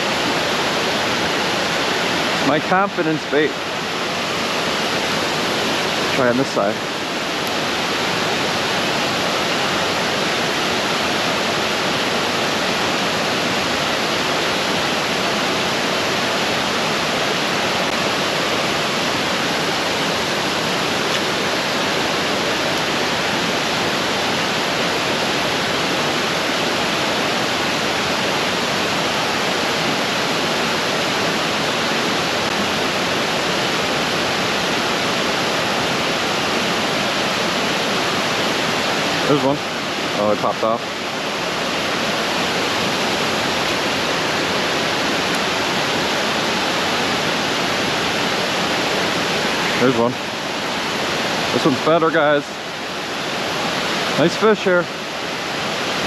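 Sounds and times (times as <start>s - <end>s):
creek water rushing over falls: 0.0s - 56.0s.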